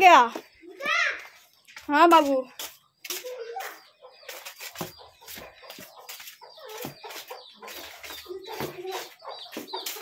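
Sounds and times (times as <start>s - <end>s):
chickens clucking: 0.1s - 10.0s.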